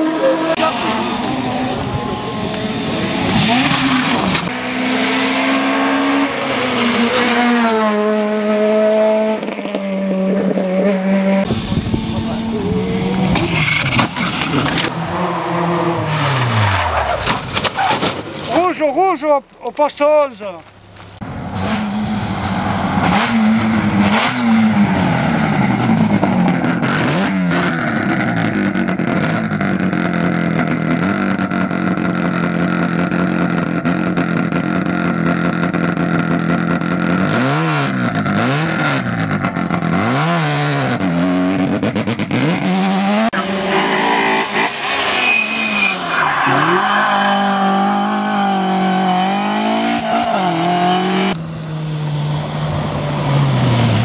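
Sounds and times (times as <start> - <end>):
rally car engine: 0.0 - 18.6, 20.9 - 54.0.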